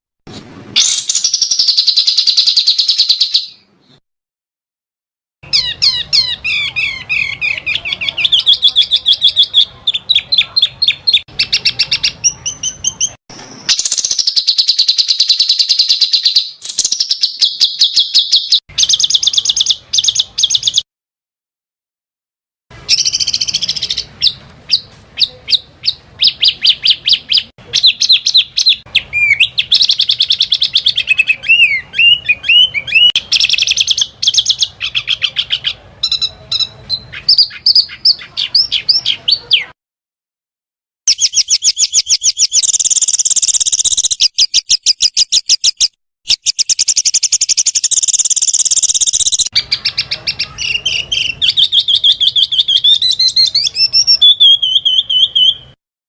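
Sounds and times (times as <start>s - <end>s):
songbirds trilling shrilly: 5.4s - 20.8s, 22.8s - 39.8s, 41.1s - 55.8s.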